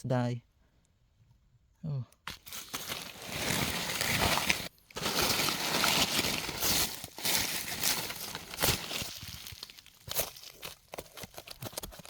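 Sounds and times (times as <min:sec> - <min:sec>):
ground litter rustling and crunching: 0:02.3 - 0:12.0.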